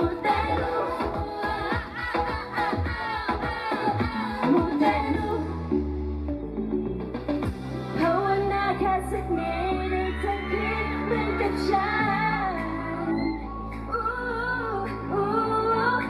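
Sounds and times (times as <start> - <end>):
pop song with female group vocals: 0.0 - 6.4, 7.4 - 16.0
heavy bass line: 0.0 - 16.0.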